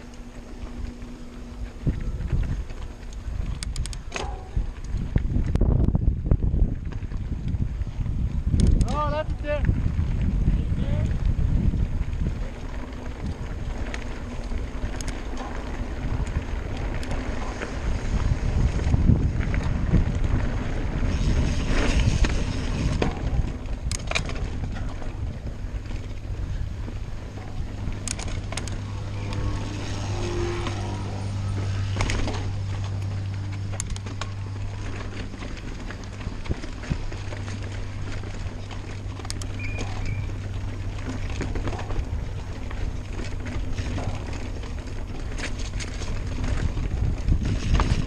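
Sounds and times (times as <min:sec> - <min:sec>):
bike clicking and rattling on stones: 0:00.0 - 0:48.0
steady low hum: 0:00.0 - 0:48.0
tyre and wind rumble: 0:00.0 - 0:48.0.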